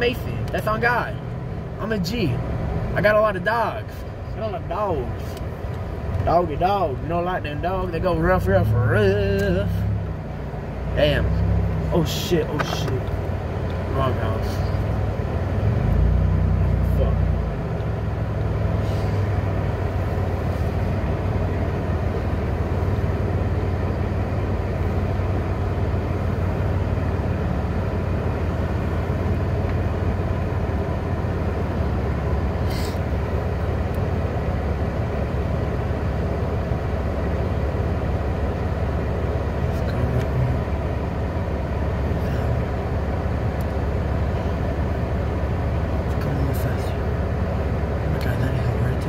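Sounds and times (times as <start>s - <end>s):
car driving rumble: 0.0s - 49.0s.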